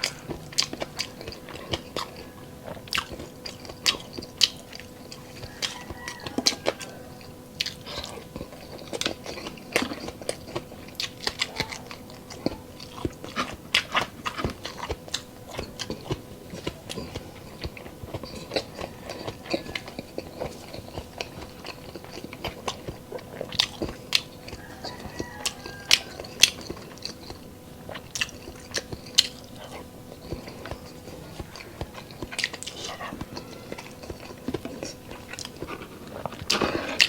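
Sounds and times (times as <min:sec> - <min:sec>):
chewing crunchy food: 0:00.0 - 0:37.0.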